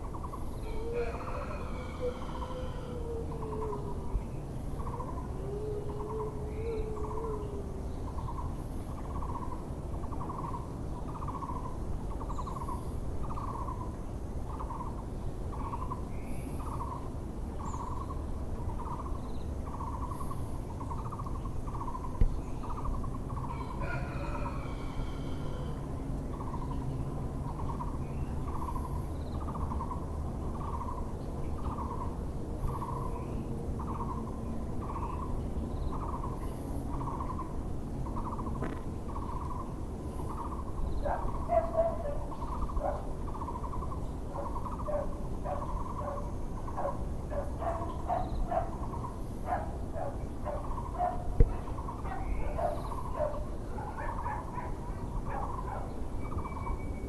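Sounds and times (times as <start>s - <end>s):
low background rumble: 0.0s - 57.0s.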